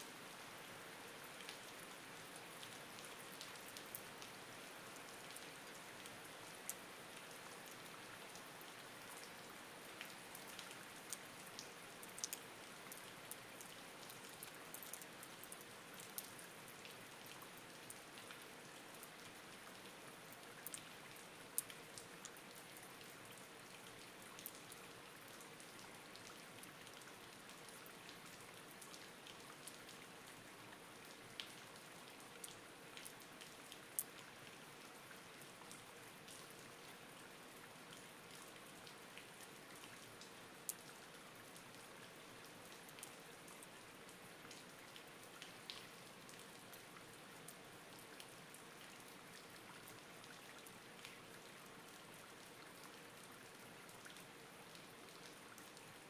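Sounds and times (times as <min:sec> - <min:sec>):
faint steady rain: 0:00.0 - 0:56.0.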